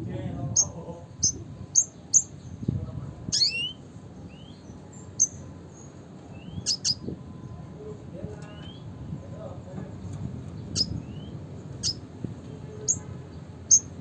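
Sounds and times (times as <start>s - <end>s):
bird chirping: 0.5s - 7.6s, 8.4s - 9.4s, 10.4s - 14.0s.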